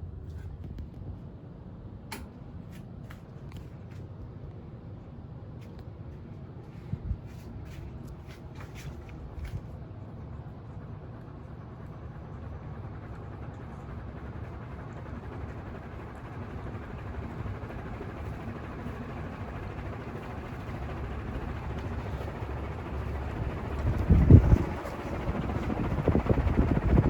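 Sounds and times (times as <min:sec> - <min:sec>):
ceiling fan humming: 0:00.0 - 0:27.0.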